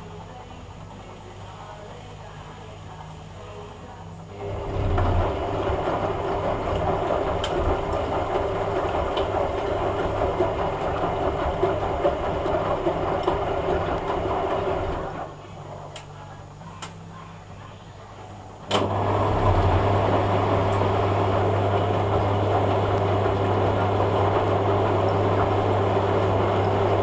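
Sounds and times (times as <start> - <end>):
washing machine rumbling: 0.0 - 3.5, 4.4 - 27.0.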